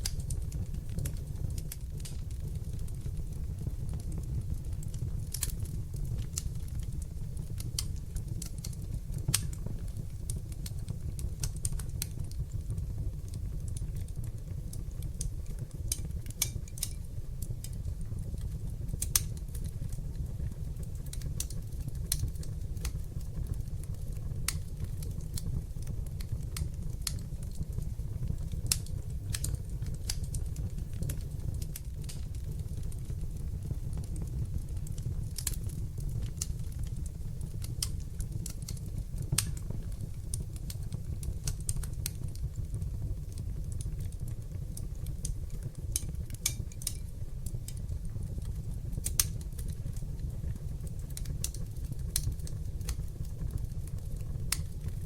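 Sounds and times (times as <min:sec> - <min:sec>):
fire crackling and popping: 0:00.0 - 0:55.0
low rumble of flames: 0:00.0 - 0:55.0.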